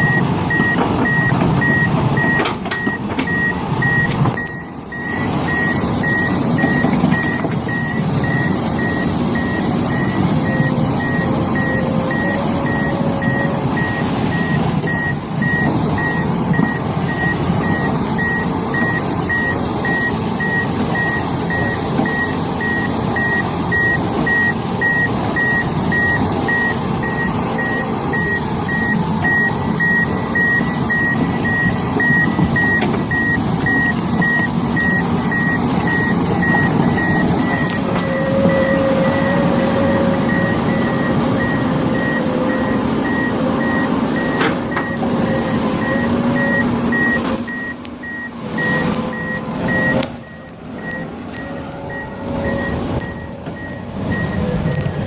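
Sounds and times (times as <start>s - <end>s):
diesel engine running: 0.0s - 55.0s
reversing alarm beeping: 0.0s - 55.0s.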